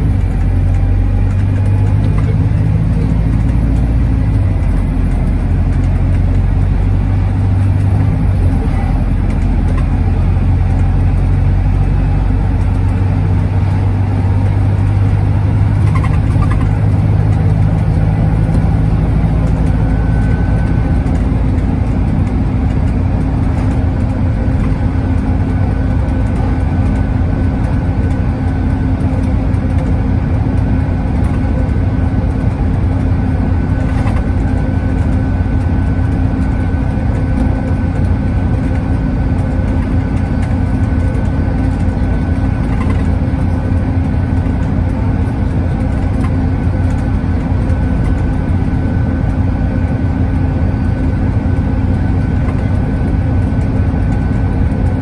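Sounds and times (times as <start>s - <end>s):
bus engine drone: 0.0s - 55.0s
tyre and road noise: 0.0s - 55.0s.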